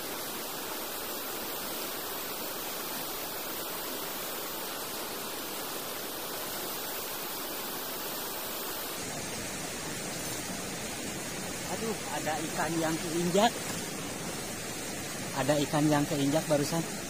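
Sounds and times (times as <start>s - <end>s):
river rushing in flood: 0.0s - 17.0s.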